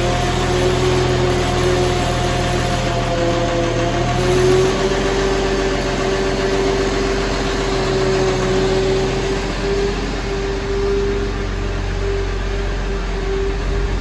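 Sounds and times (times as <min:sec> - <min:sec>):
diesel engine idling: 0:00.0 - 0:14.0
steady whine: 0:00.0 - 0:14.0.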